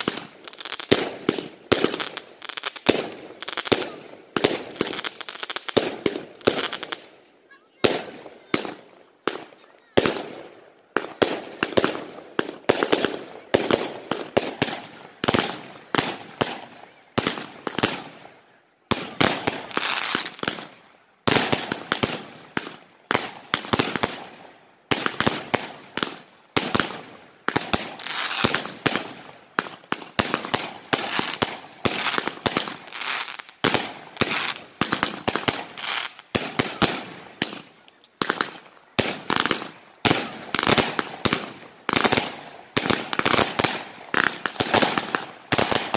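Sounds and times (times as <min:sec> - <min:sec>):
fireworks launching and bursting: 0:00.0 - 0:45.9.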